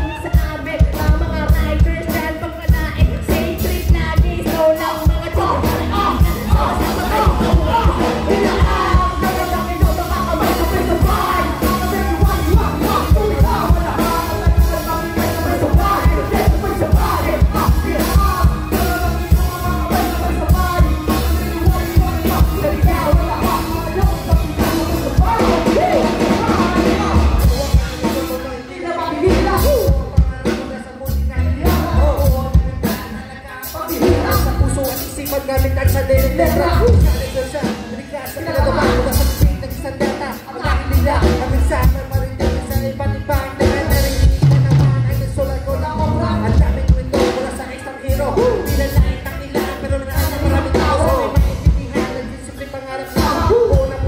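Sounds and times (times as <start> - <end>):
drum kit beat: 0.0 - 54.0
keyboard: 0.0 - 54.0
people singing into microphones: 0.0 - 54.0.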